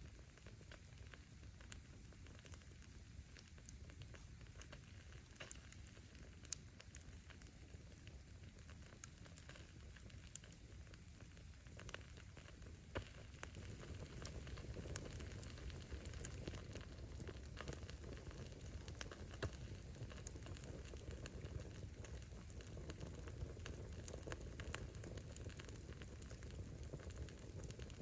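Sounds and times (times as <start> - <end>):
firewood crackles and pops: 0.0 - 28.0
low rush of flames: 0.0 - 28.0.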